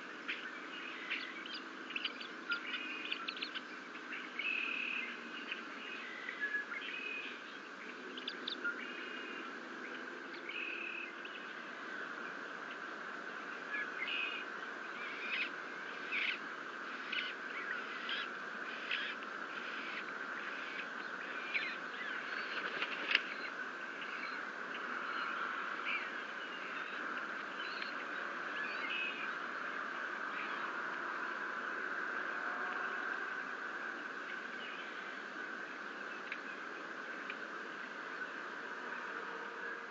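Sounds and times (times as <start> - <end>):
steady background noise: 0.0 - 39.9
wild birds chirping: 0.0 - 39.9.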